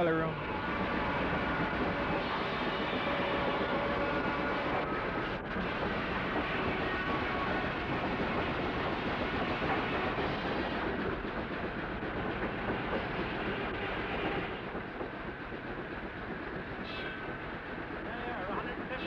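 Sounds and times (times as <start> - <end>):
machinery rumbling: 0.0 - 19.0.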